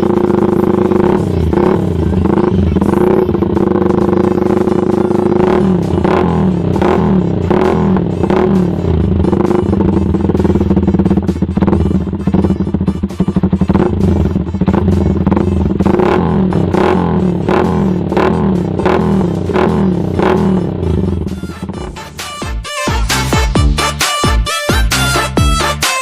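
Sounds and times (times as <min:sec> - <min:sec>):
motorcycle engine throttle blips: 0:00.0 - 0:22.2.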